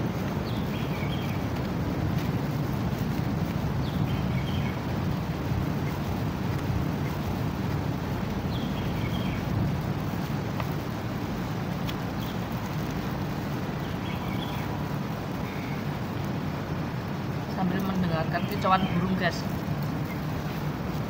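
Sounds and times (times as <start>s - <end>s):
birds chirping: 0.0s - 21.0s
low background rumble: 0.0s - 21.0s.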